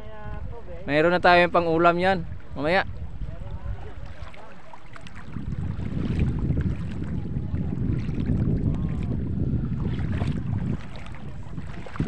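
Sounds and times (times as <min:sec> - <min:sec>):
wind buffeting microphone: 0:00.0 - 0:12.0
light water splashes: 0:01.8 - 0:12.0.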